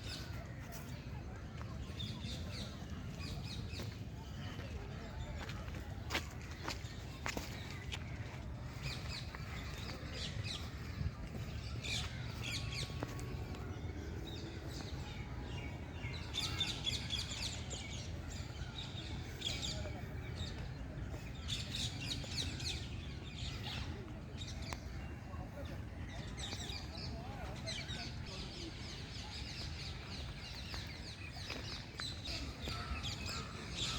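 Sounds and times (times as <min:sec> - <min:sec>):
birds chirping: 0:06.6 - 0:33.9.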